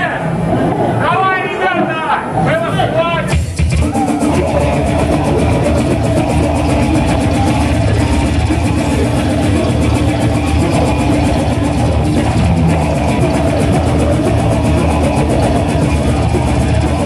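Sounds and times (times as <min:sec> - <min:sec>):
distorted electric guitars: 0:00.0 - 0:17.0
bass guitar: 0:02.2 - 0:17.0
rapid drumming: 0:03.2 - 0:17.0.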